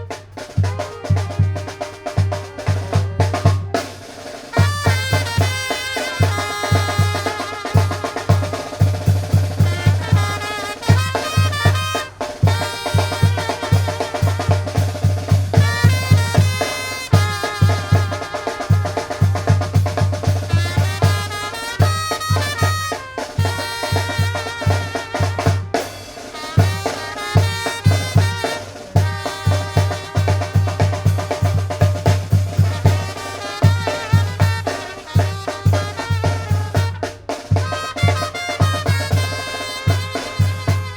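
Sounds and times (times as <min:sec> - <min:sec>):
bass drum and snare beat: 0:00.0 - 0:40.9
brass melody: 0:00.0 - 0:40.9.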